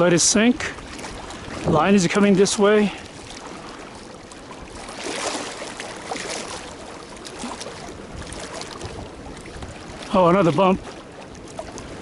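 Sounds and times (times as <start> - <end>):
lake water lapping and splashing: 0.0 - 12.0.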